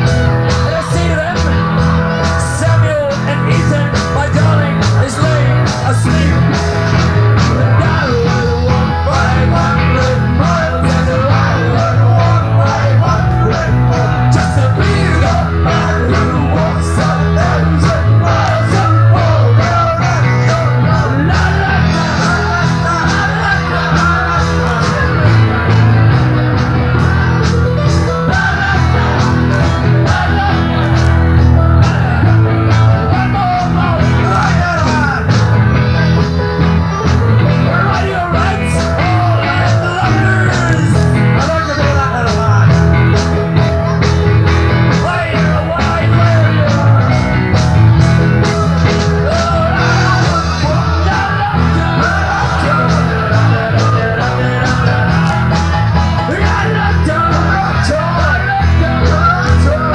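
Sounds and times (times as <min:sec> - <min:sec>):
bass guitar: 0:00.0 - 0:59.9
electric guitar: 0:00.0 - 0:59.9
man singing: 0:00.0 - 0:59.9.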